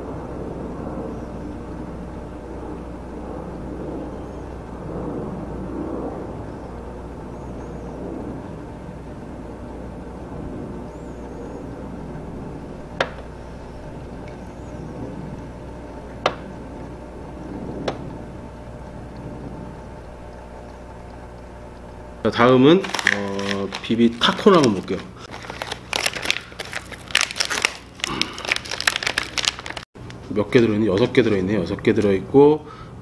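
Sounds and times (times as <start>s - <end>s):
aquarium pump humming: 0.0s - 32.8s.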